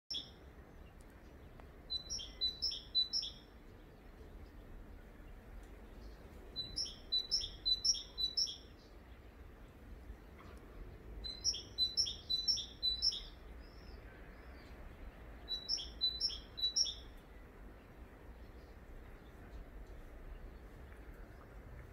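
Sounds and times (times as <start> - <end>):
songbird singing: 0.1 - 21.9.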